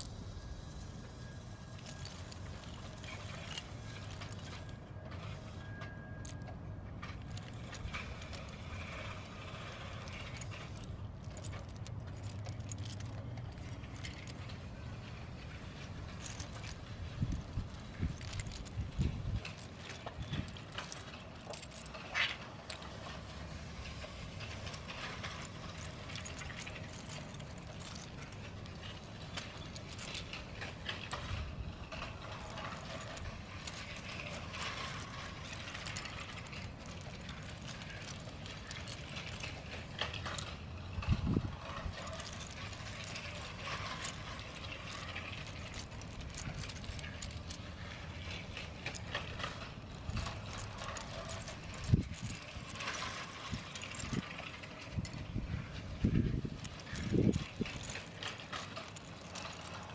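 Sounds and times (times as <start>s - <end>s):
small irregular clicks: 0.0s - 59.9s
toy train rattling on track: 0.0s - 59.9s.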